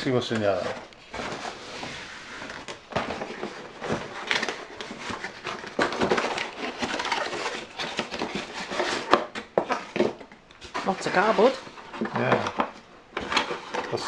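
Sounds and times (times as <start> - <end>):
cardboard crackling and rustling: 0.0 - 14.0.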